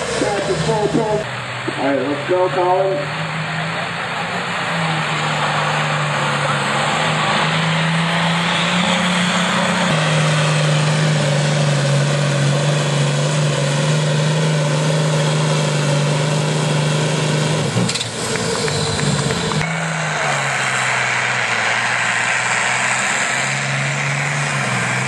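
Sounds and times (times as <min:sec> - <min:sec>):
tractor engine under full load: 0:00.0 - 0:25.0.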